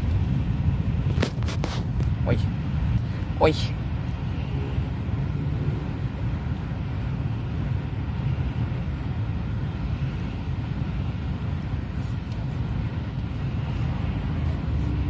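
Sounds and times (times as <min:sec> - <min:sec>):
car engine idling: 0:01.8 - 0:15.0.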